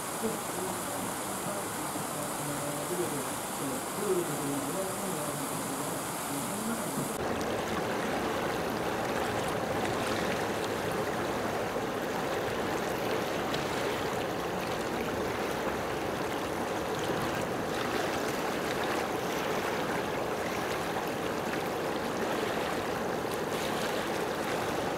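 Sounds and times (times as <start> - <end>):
water rushing: 0.0 - 24.9.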